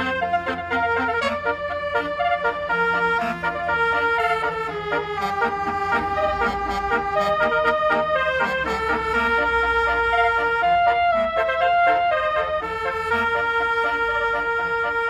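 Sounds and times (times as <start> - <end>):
musical vehicle horn melody: 0.0 - 15.0.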